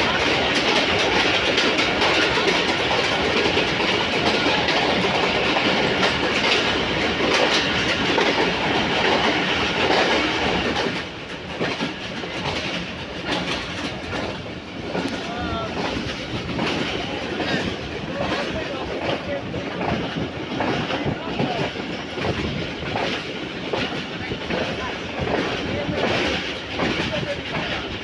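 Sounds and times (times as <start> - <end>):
train wheels clacking on rails: 0.0 - 28.0.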